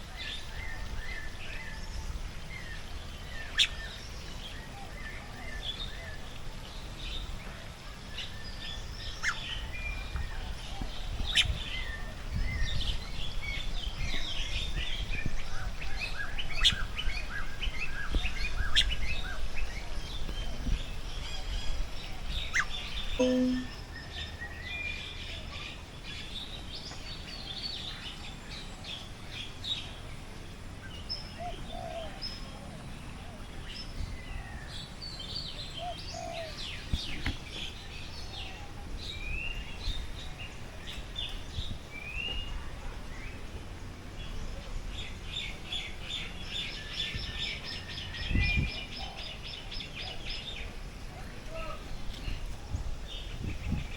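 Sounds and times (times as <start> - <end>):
many birds chirping: 0.0 - 53.9.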